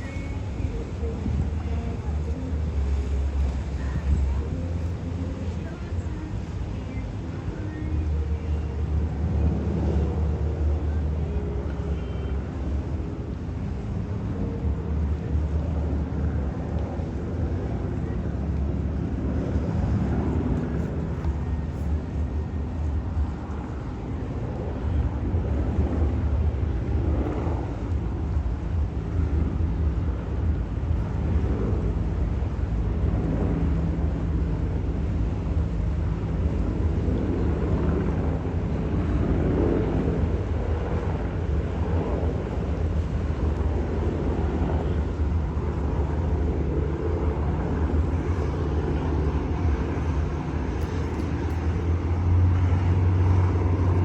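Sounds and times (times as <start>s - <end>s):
helicopter rotor rumble: 0.0s - 54.0s
wind on microphone: 0.0s - 54.0s.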